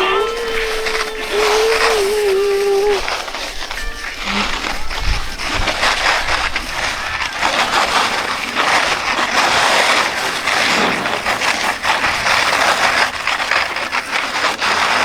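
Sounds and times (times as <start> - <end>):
skis scraping over snow: 0.0 - 15.0.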